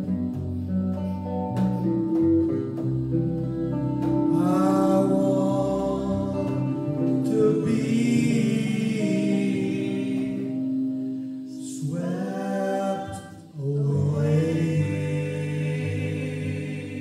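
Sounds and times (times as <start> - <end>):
guitar: 0.0 - 17.0
voices singing long held notes: 2.4 - 17.0.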